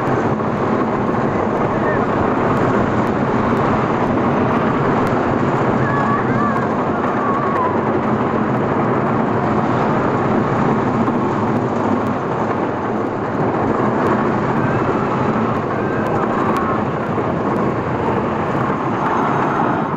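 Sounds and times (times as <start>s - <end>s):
roller coaster wheels rumbling: 0.0s - 19.9s.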